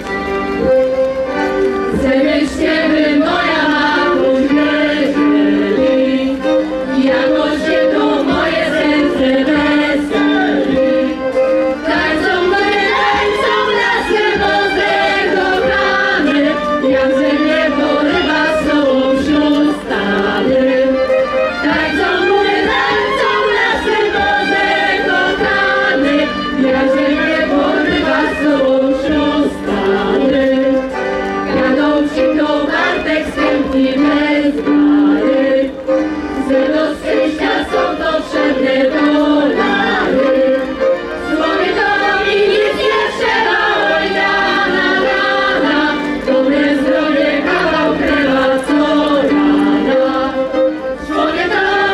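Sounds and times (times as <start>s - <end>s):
instrumental accompaniment: 0.0s - 51.9s
choir singing: 1.8s - 51.9s.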